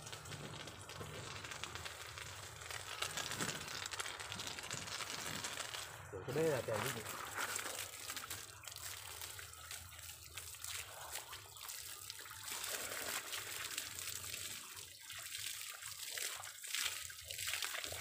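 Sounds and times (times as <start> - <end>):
hose water splashing on person: 0.0 - 18.0.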